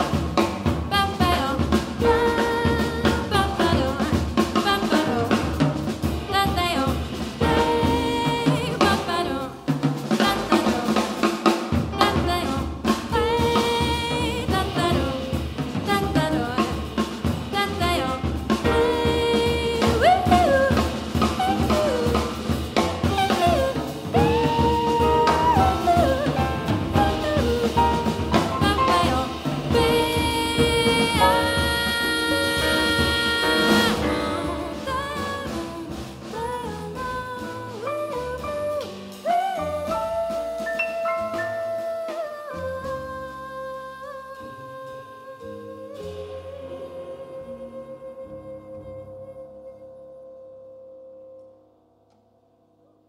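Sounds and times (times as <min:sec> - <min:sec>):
busy drum kit: 0:00.0 - 0:47.8
double bass: 0:00.0 - 0:51.5
piano: 0:00.0 - 0:53.0
woman singing: 0:00.8 - 0:11.3, 0:11.9 - 0:50.4.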